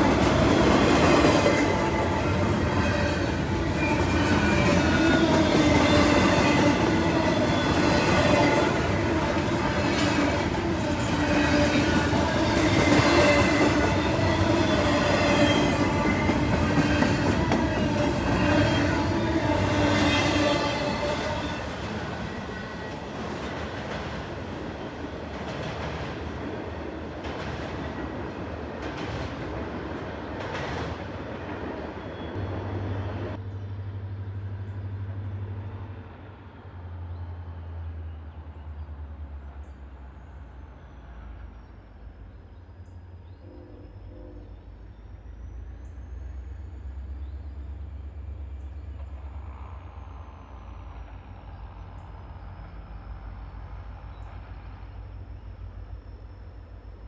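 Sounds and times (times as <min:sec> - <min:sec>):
distant diesel locomotive rumble: 0:00.0 - 0:57.0.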